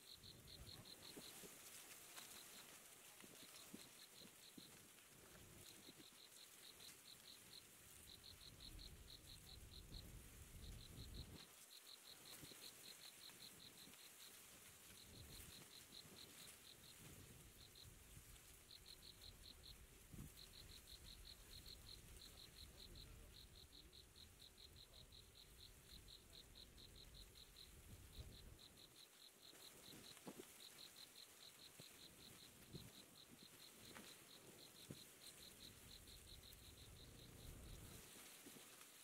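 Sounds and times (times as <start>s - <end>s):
insect chirping: 0.0s - 39.0s.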